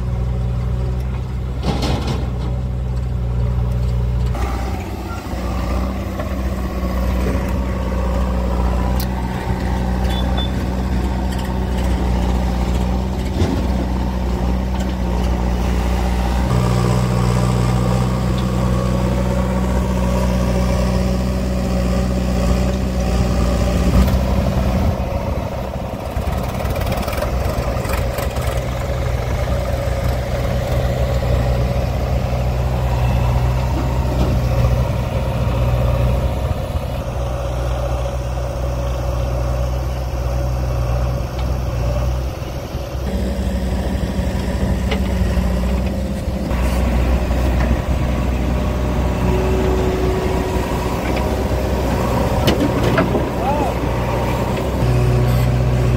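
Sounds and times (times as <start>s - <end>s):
diesel engines running: 0.0s - 55.9s.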